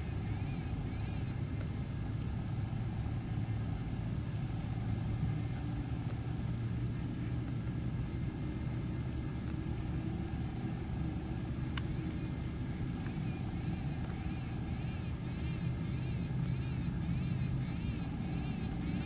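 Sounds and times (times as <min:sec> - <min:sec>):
faint high whine: 0:00.0 - 0:19.0
low outdoor rumble: 0:00.0 - 0:19.0.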